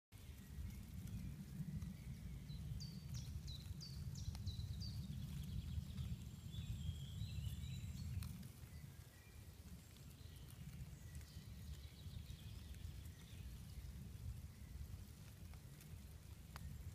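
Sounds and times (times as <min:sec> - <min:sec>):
songbird singing: 0:00.1 - 0:16.9
low rumble: 0:00.2 - 0:16.9.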